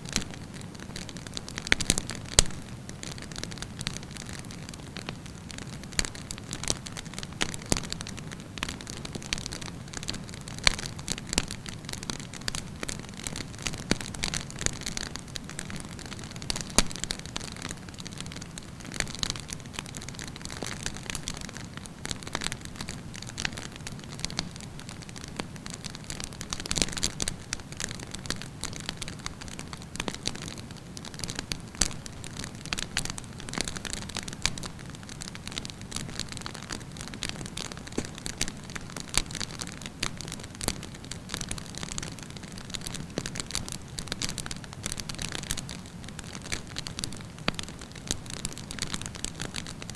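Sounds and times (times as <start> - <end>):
campfire hissing and crackling: 0.0 - 49.9.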